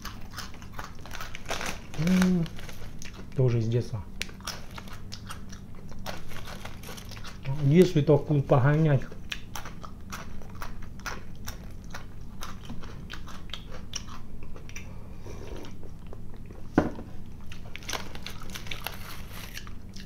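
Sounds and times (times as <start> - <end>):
crunching bread sticks: 0.0 - 14.9, 17.4 - 20.0.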